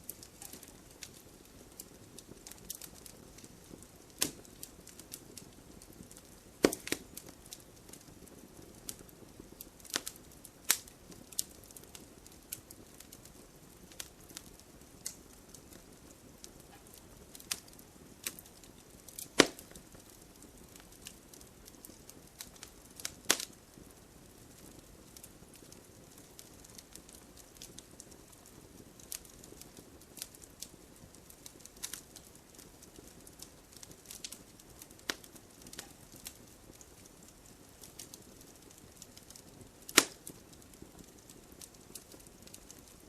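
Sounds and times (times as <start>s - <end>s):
burning wood crackling and popping: 0.0s - 43.0s
campfire hissing: 0.0s - 43.0s.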